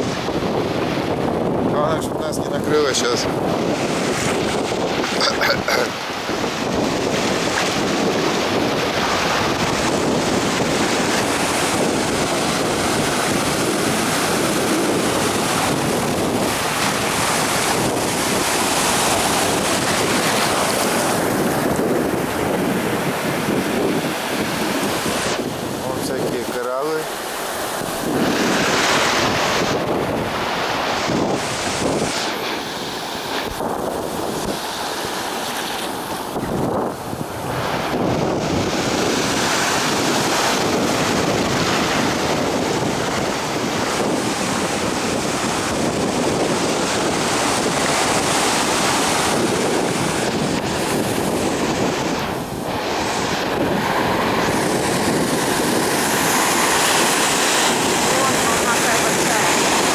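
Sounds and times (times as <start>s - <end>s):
waves breaking: 0.0s - 59.9s
wind buffeting microphone: 0.0s - 59.9s.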